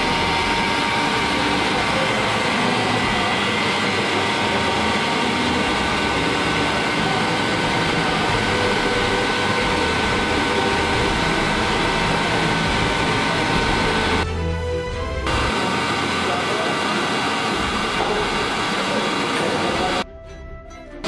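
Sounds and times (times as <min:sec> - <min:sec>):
centrifuge machinery humming: 0:00.0 - 0:20.0.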